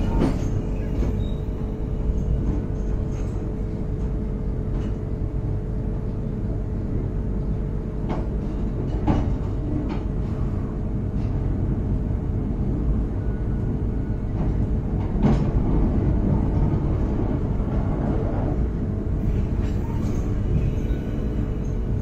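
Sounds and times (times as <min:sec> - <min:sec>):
train carriage rumbling on track: 0:00.0 - 0:22.0.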